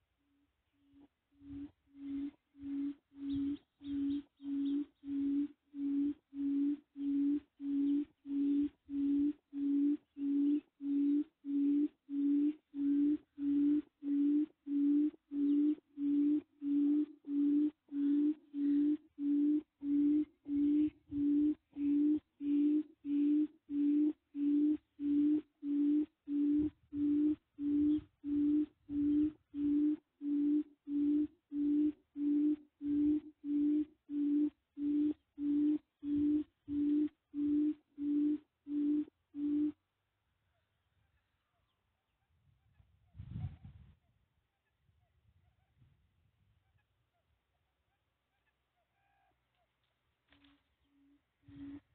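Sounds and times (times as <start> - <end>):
recorded bird call from speaker: 0.0 - 39.8, 40.4 - 49.8, 50.4 - 51.9.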